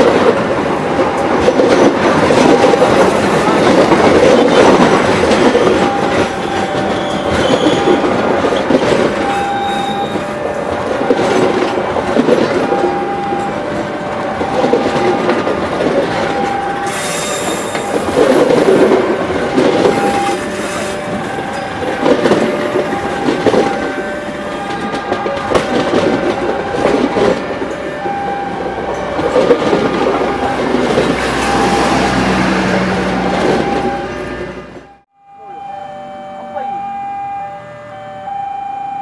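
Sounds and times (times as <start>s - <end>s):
train wheels clattering: 0.0s - 34.2s.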